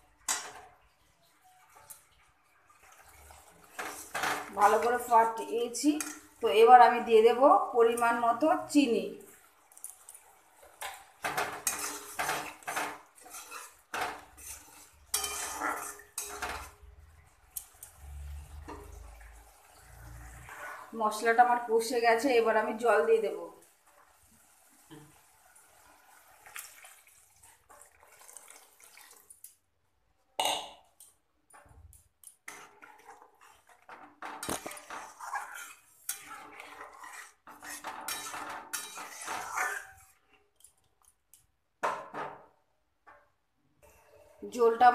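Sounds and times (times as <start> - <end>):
metal spatula scraping a pan: 0.0 - 0.8, 2.7 - 29.0, 31.6 - 40.8, 43.8 - 44.9.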